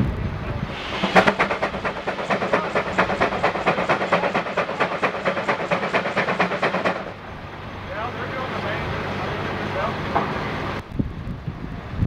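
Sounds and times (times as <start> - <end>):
steam hiss: 0.5 - 10.8
steam engine exhaust chuffing: 0.6 - 10.4.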